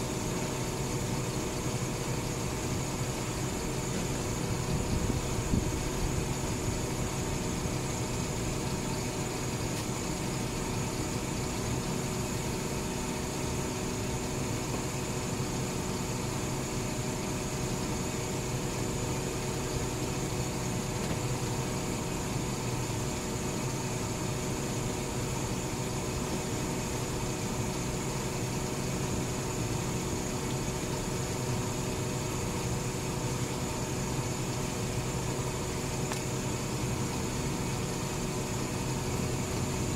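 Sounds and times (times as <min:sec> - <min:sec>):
garbage truck idling: 0:00.0 - 0:39.9.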